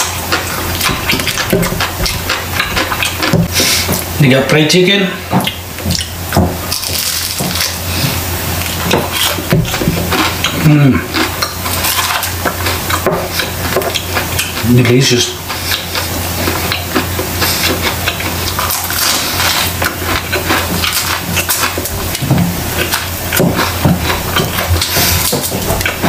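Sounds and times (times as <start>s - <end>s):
chewing crispy fried chicken: 0.0s - 4.2s, 5.4s - 26.0s.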